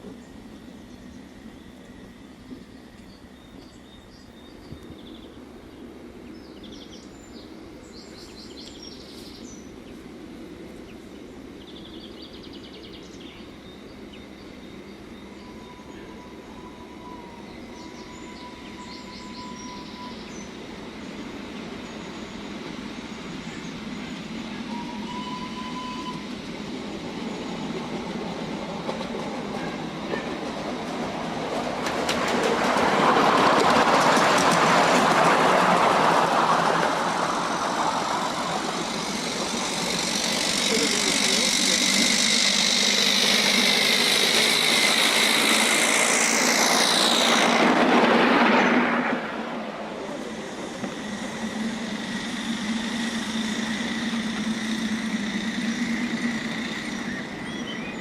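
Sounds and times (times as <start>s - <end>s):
steam locomotive running: 0.0s - 58.0s
birds chirping: 0.2s - 47.5s, 50.0s - 58.0s.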